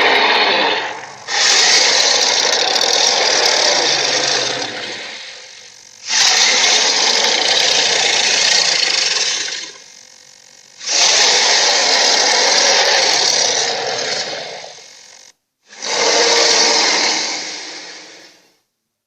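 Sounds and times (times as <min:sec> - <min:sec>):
dinosaur roar: 0:00.0 - 0:09.8, 0:10.8 - 0:14.8, 0:15.7 - 0:18.4.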